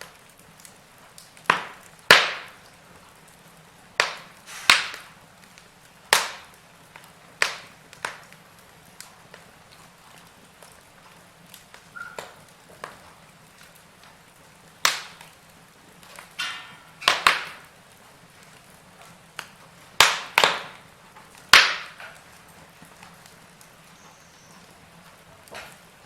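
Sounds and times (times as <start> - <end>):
burning logs crackling: 0.0 - 26.0
faint steady hiss: 0.0 - 26.0.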